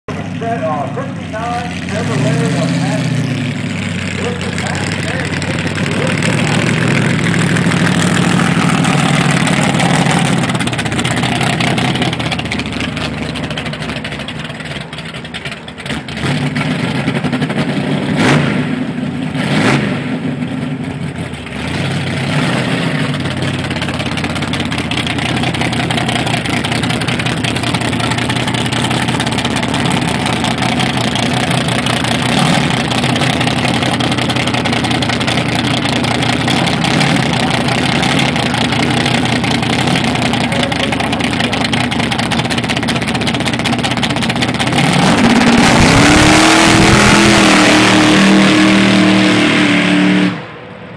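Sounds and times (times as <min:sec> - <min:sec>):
pickup engine revving: 0:00.1 - 0:50.9.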